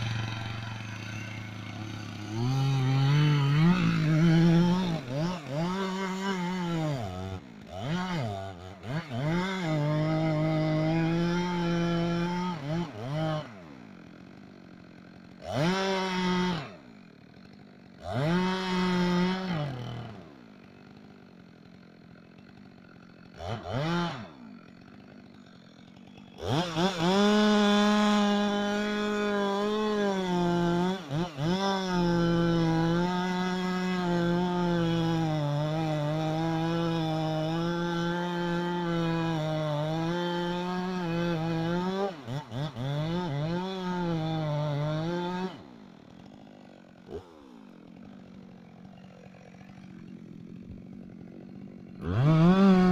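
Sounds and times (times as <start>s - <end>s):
chainsaw revving and cutting: 0.0s - 52.9s.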